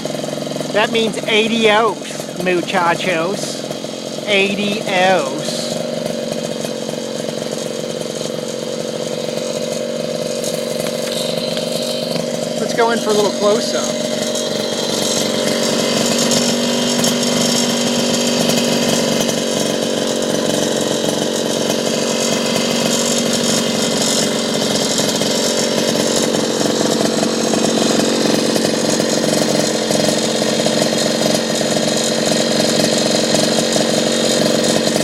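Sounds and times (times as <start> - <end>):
moped engine idling: 0.0 - 35.0.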